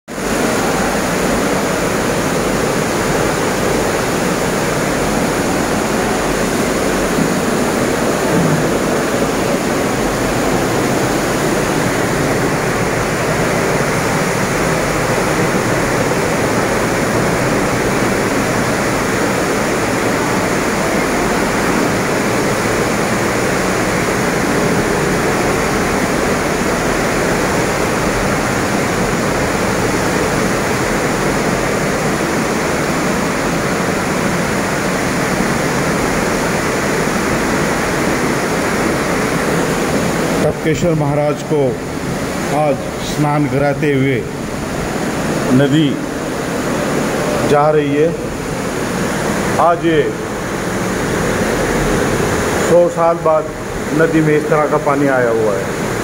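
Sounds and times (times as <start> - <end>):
floodwater rushing: 0.1 - 56.0.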